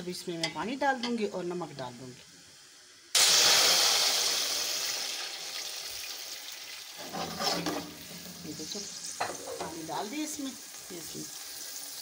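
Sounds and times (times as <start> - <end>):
water hissing in hot oil: 0.0 - 12.0.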